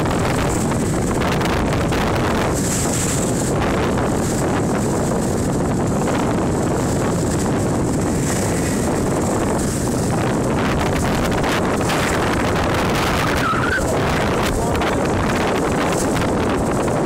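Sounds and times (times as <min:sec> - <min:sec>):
choppy water rushing: 0:00.0 - 0:17.0
wind buffeting microphone: 0:00.0 - 0:17.0.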